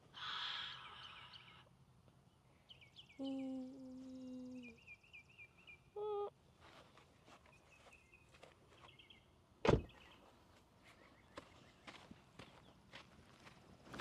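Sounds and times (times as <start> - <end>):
birds chirping: 0.0 - 6.3, 7.1 - 13.0.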